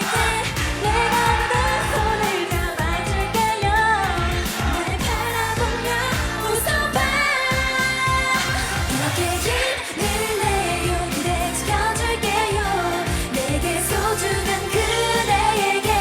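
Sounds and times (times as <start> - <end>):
pop backing track with beat: 0.0 - 16.0
women singing: 0.0 - 16.0.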